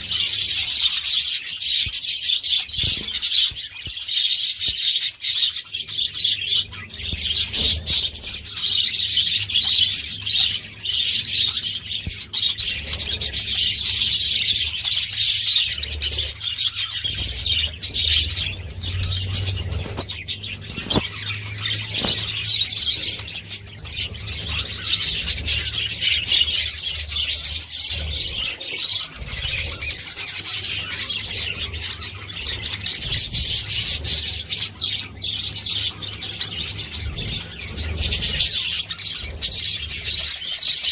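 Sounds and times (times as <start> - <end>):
budgerigars chattering and warbling: 0.0 - 40.9
low steady hum: 5.8 - 40.5.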